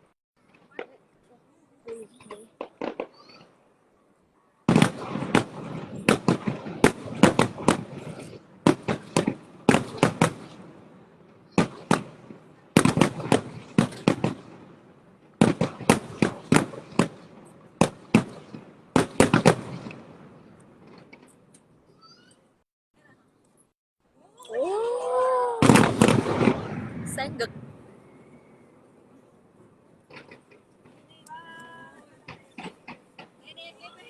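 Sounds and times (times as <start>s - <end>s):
fireworks bangs: 0.0s - 3.8s, 4.6s - 22.4s, 25.5s - 34.0s.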